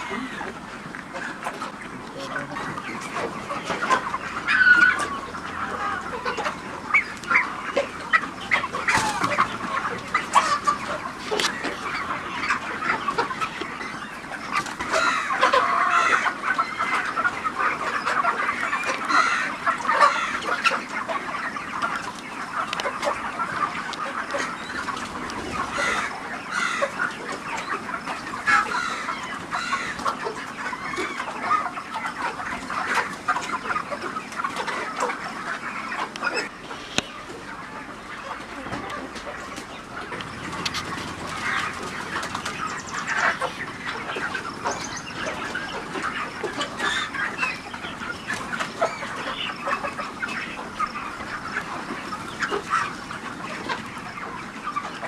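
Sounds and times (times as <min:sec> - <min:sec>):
chickens clucking and peeping: 0:00.0 - 0:55.0.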